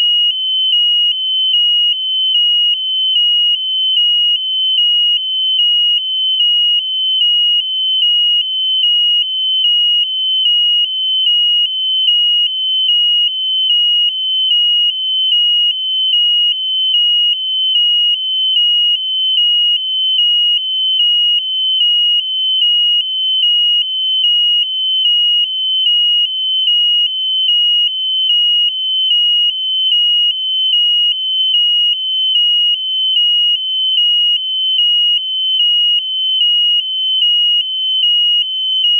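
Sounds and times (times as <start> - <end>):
piezo buzzer beeping: 0.0 - 38.9.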